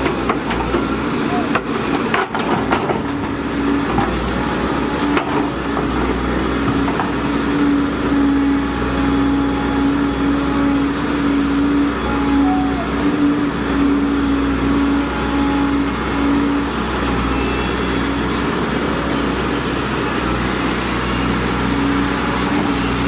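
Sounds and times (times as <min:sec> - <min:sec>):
excavator engine rumbling: 0:00.0 - 0:23.0.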